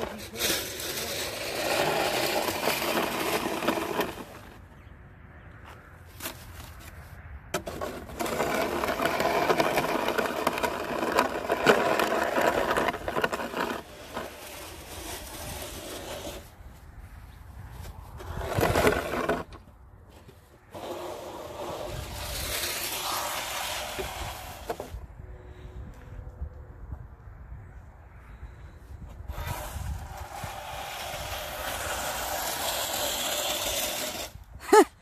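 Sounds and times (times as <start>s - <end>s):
snow shovel scraping asphalt: 0.0s - 4.7s, 6.1s - 25.6s, 29.2s - 34.9s.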